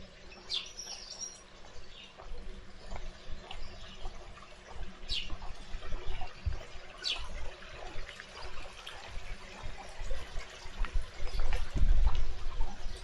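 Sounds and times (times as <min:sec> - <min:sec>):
small water splashes: 0:00.0 - 0:13.0
water flowing and trickling: 0:00.0 - 0:13.0.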